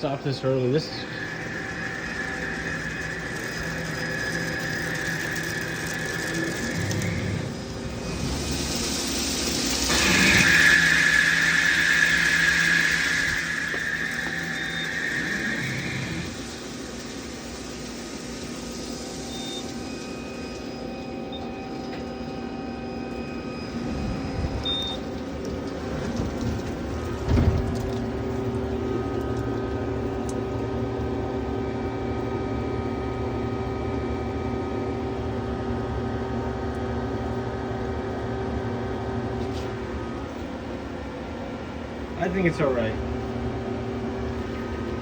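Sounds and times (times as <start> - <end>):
machine hum with held tones: 0.0 - 45.0.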